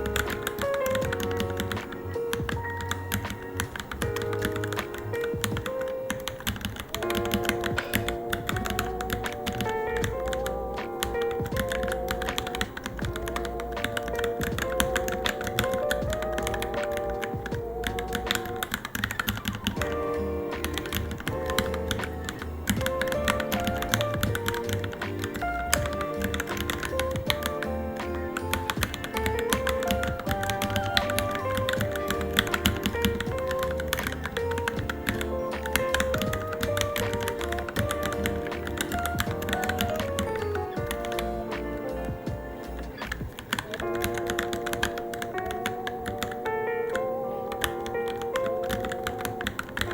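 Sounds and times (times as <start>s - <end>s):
background music: 0.0s - 49.9s
mechanical keyboard typing: 0.0s - 49.9s.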